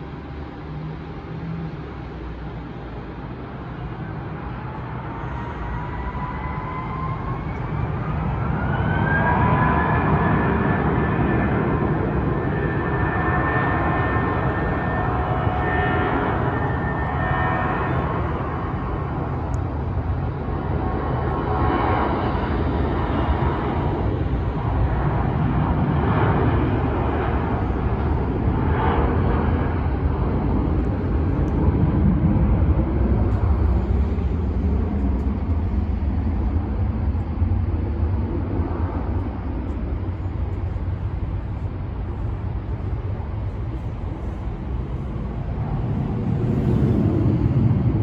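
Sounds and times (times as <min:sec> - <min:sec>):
jet engines rumbling: 0:00.0 - 0:48.0.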